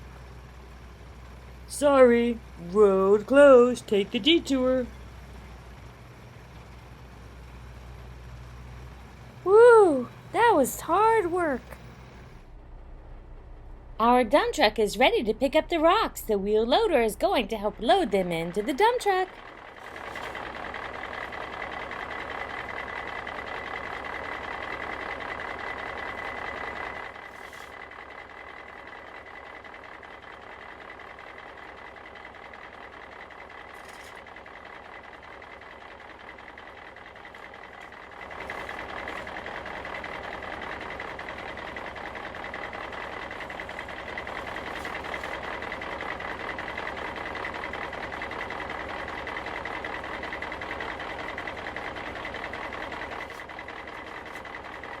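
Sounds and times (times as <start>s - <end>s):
heavy construction vehicle engine: 0.0s - 55.0s.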